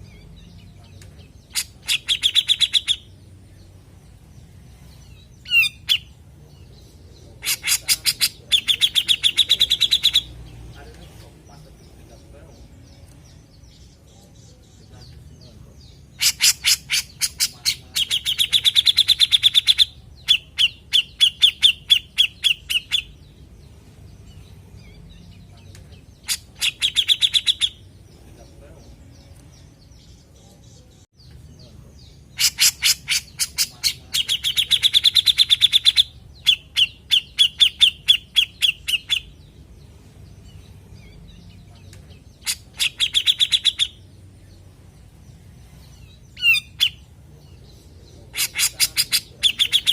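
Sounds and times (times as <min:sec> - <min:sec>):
bulbul chattering calls: 0:00.0 - 0:31.0, 0:31.6 - 0:49.9.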